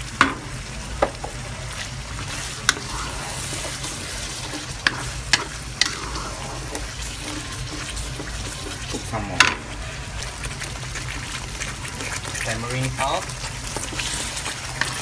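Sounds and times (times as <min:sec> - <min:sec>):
chili paste sizzling in oil: 0:00.0 - 0:15.0
wooden spoon scraping pan: 0:02.2 - 0:15.0.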